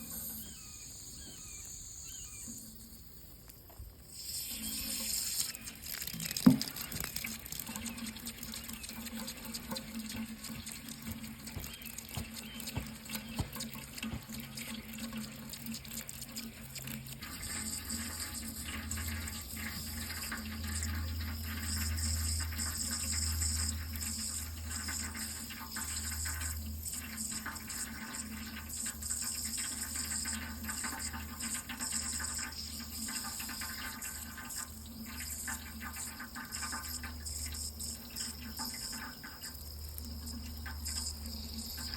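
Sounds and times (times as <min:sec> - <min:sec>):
water running: 0:02.7 - 0:41.9.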